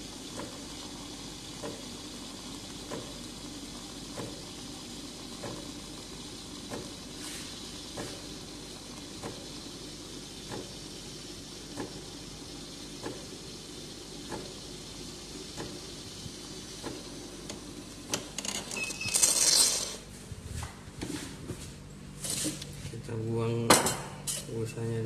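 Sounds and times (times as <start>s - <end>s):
espresso machine hum: 0.0s - 25.0s.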